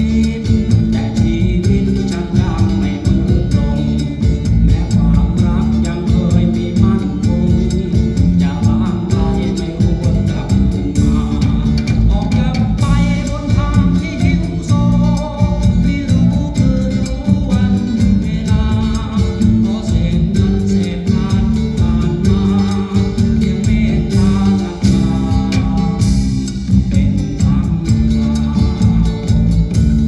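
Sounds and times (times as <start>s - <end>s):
song with singing guitar and drums: 0.0s - 30.0s.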